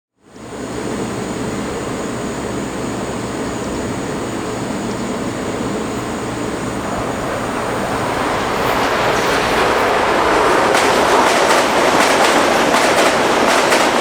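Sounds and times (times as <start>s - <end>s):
train rushing roar: 0.3s - 14.0s.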